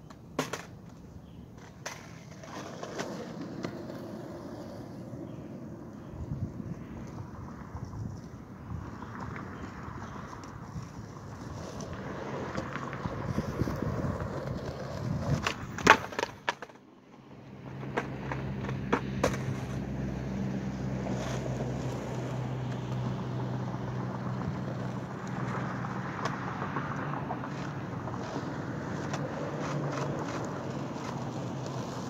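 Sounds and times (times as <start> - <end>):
skateboard clacking on pavement: 0.0 - 16.9, 17.5 - 20.1, 20.7 - 32.0
skateboard wheels rolling: 0.0 - 32.0.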